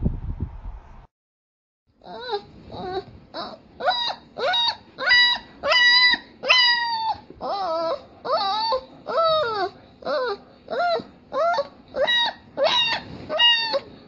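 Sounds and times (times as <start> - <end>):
puppy whimpering cries: 2.0 - 14.0.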